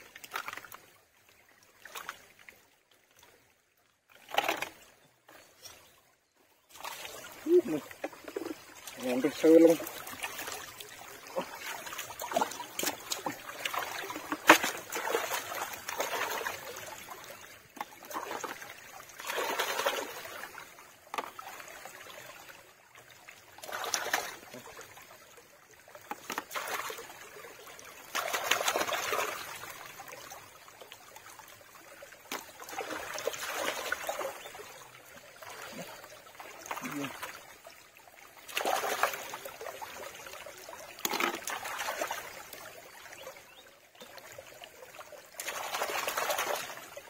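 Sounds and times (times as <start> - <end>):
stream water trickling and splashing: 0.0 - 47.0.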